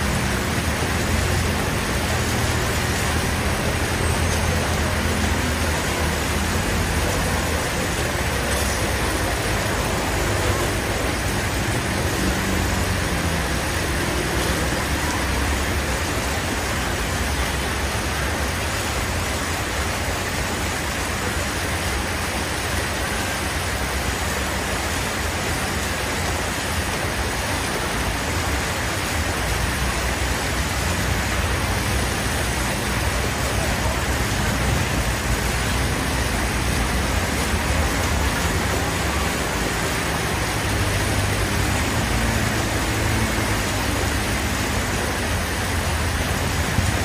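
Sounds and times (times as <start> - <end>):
road traffic noise: 0.0 - 47.0.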